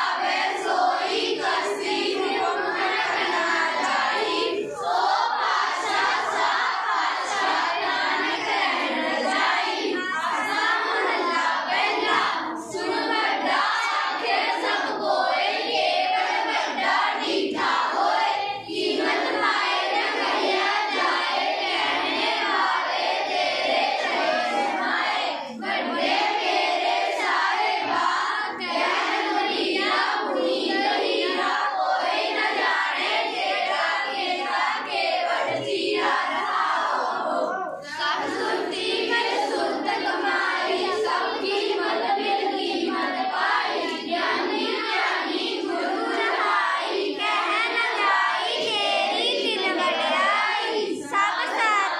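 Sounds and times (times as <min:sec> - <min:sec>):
children singing a prayer in unison: 0:00.0 - 0:51.9.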